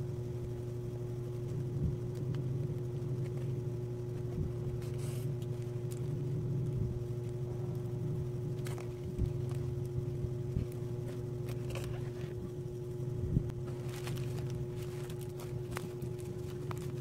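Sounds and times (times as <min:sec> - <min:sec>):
constant tone: 0:00.0 - 0:17.0
low mechanical hum: 0:00.0 - 0:17.0.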